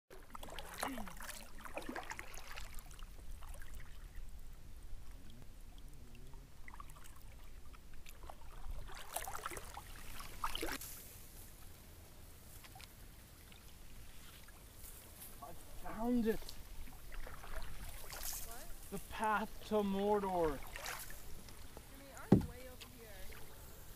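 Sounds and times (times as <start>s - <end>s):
paddle strokes splashing: 0.1s - 23.9s.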